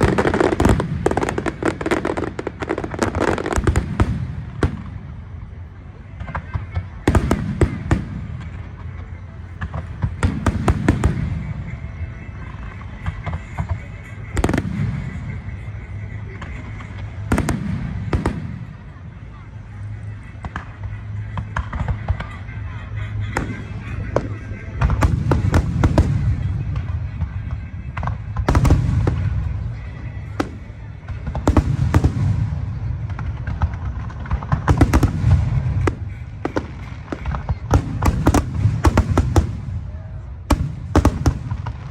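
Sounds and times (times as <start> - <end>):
fireworks bangs: 0.0 - 19.0, 23.1 - 41.9.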